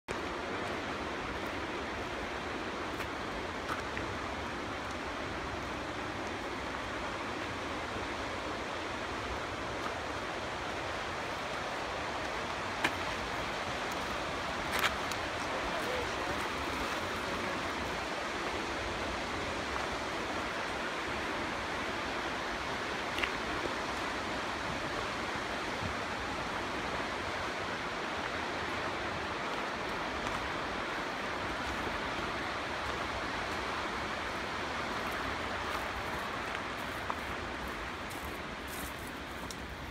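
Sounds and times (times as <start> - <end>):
running water rushing: 0.1 - 39.9.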